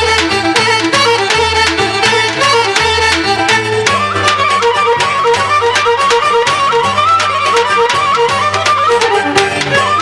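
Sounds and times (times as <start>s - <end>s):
lively folk dance music: 0.0s - 10.0s.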